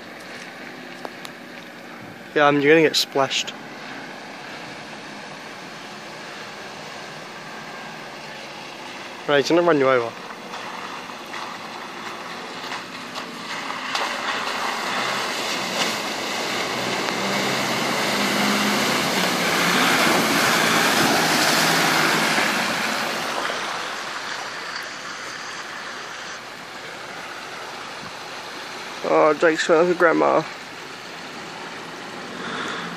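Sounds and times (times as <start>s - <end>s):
muddy water splashing: 0.0s - 32.9s
truck engine running: 0.0s - 32.9s.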